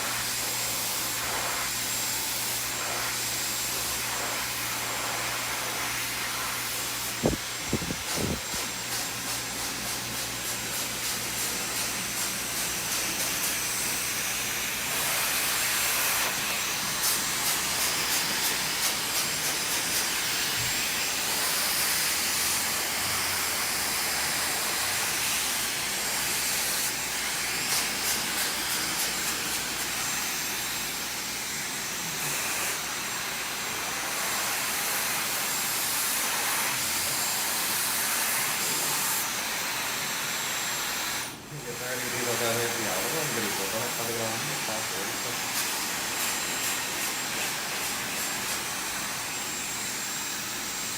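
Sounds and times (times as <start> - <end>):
hair dryer blowing: 0.0 - 50.9.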